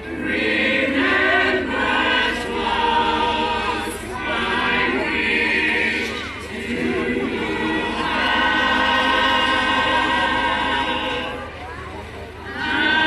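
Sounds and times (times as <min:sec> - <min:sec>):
choir singing long notes: 0:00.0 - 0:13.0.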